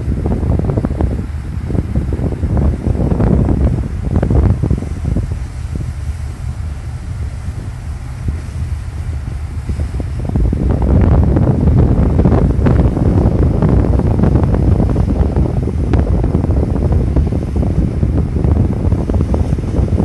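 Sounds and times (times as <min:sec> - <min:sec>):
low rumble: 0:00.0 - 0:20.0
wind buffeting microphone: 0:00.0 - 0:20.0.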